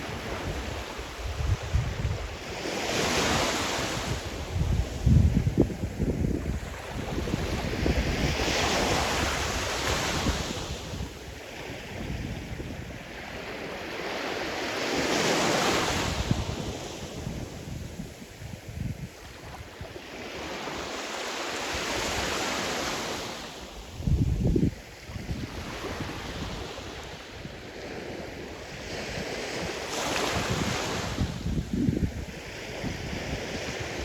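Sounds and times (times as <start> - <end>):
wind rumbling on microphone: 0.0 - 13.5, 15.6 - 20.6, 23.8 - 34.0
waves breaking and washing in: 0.0 - 34.0.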